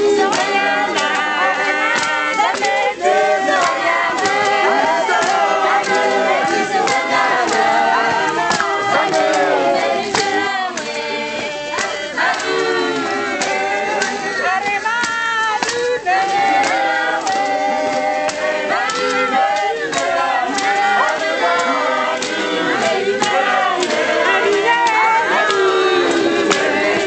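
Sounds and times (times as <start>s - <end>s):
choir singing in parts: 0.0s - 27.0s
steady percussive beat: 0.0s - 27.0s.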